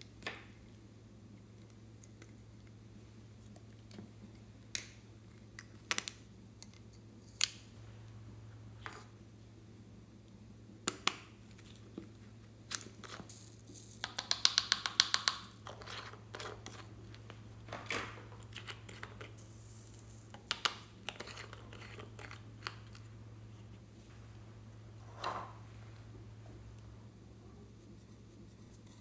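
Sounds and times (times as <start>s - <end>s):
steady low hum: 0.0s - 14.1s, 15.4s - 29.0s.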